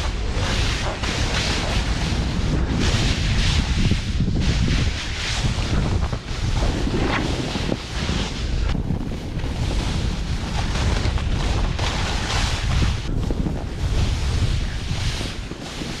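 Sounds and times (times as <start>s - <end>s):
snowboard sliding through snow: 0.0s - 16.0s
wind buffeting microphone: 0.0s - 16.0s.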